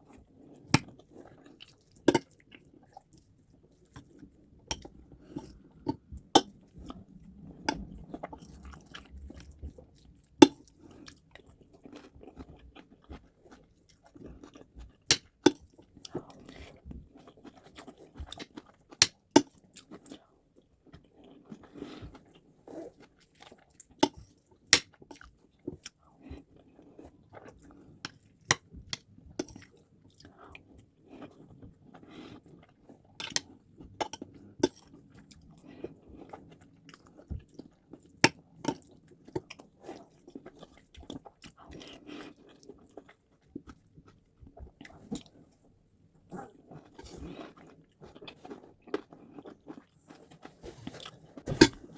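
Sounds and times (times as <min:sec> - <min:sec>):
wet chewing sounds: 0:00.0 - 0:51.9.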